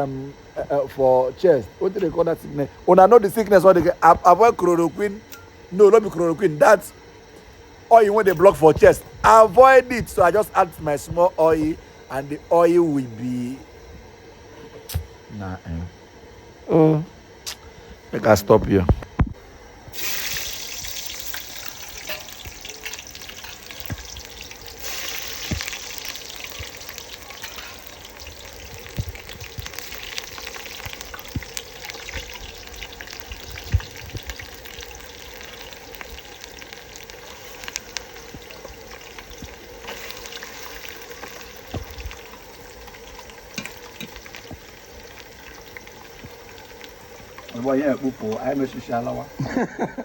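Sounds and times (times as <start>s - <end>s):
chicken sizzling in a pot: 0.0s - 15.3s, 19.3s - 50.0s
sharp crackles and pops: 1.8s - 14.0s, 17.4s - 17.9s, 18.5s - 49.3s.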